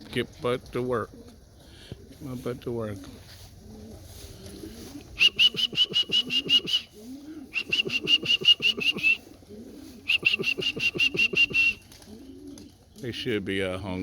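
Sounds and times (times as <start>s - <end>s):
pigeons cooing: 0.9s - 13.3s.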